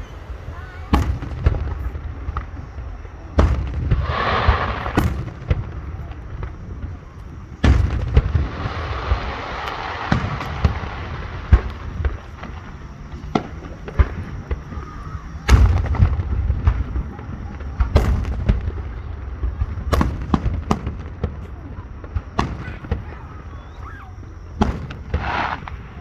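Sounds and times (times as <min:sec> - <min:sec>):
fireworks booming: 0:00.0 - 0:26.0
fireworks cracks and pops: 0:00.0 - 0:26.0.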